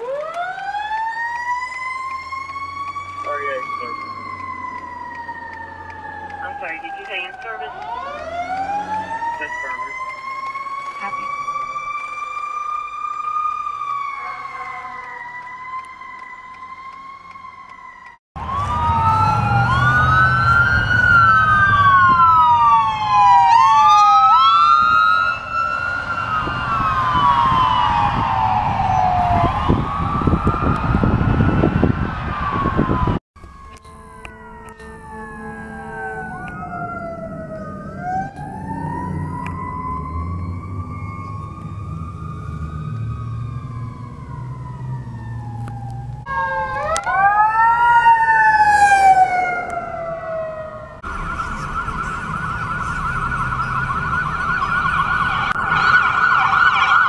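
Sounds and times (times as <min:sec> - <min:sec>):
ambulance siren sweeping: 0:00.0 - 0:57.0
engine and road noise: 0:00.0 - 0:57.0
fire engine siren wailing: 0:00.0 - 0:57.0
fire truck siren wailing: 0:00.0 - 0:57.0.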